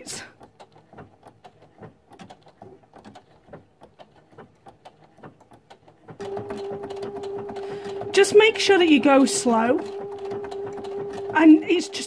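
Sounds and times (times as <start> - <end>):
sewing machine motor hum: 0.0 - 12.0
sewing machine needle clicking: 0.0 - 12.0.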